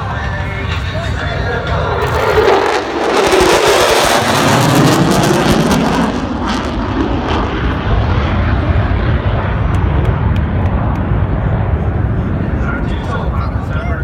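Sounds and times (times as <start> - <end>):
jet engine roaring past: 0.0 - 14.0.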